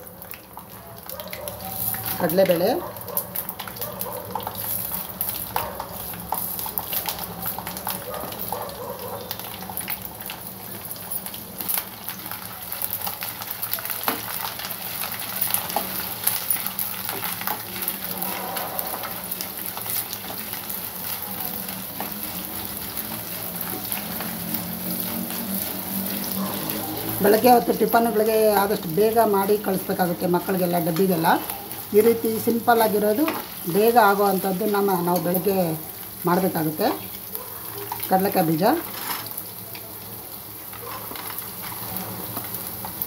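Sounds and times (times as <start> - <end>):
hot oil sizzling and popping: 0.0 - 43.0.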